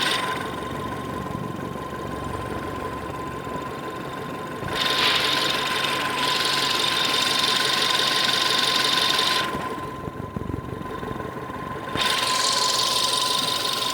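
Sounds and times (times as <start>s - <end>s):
engine idling: 0.0s - 13.9s.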